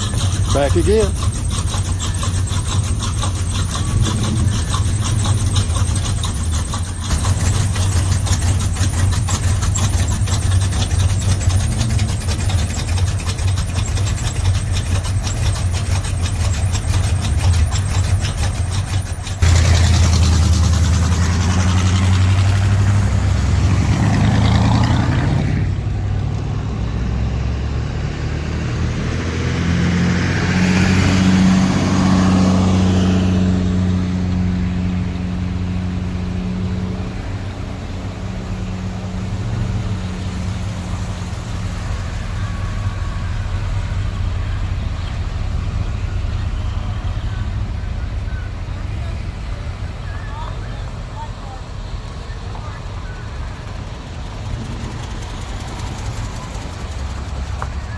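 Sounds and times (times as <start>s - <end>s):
car engine idling: 0.0s - 28.4s, 29.0s - 57.9s
car engine revving: 0.0s - 57.9s.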